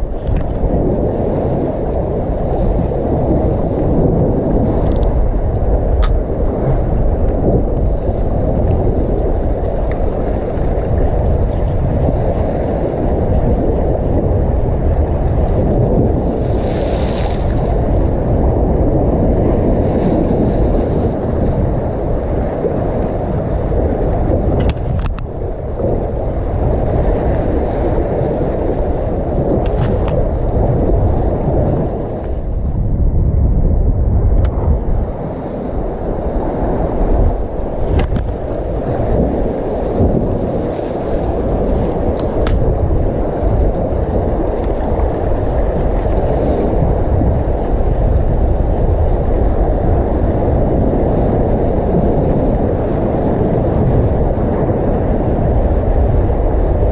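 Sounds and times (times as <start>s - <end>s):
waves washing against rocks: 0.0s - 56.9s
wind buffeting microphone: 0.0s - 56.9s.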